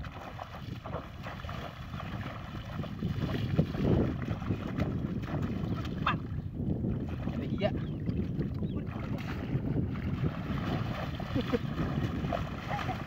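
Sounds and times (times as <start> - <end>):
legs wading through water: 0.0 - 13.0
muddy water splashing: 0.0 - 13.0.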